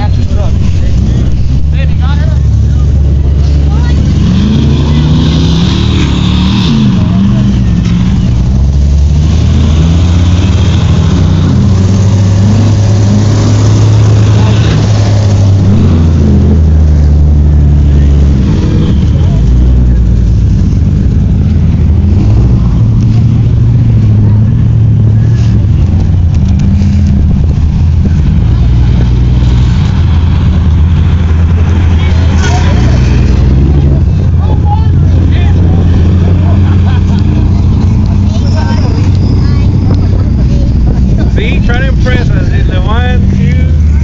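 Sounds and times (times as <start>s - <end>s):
pickup engine revving: 0.0s - 44.0s.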